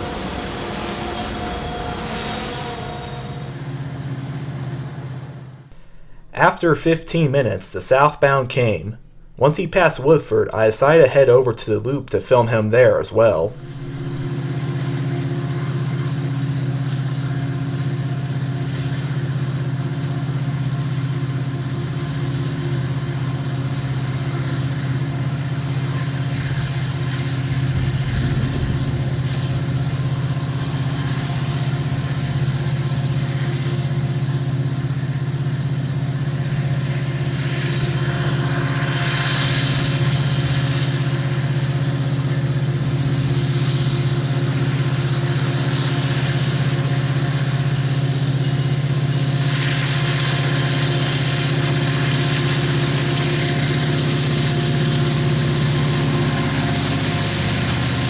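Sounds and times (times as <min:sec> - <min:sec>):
diesel locomotive engines: 0:00.0 - 0:58.0.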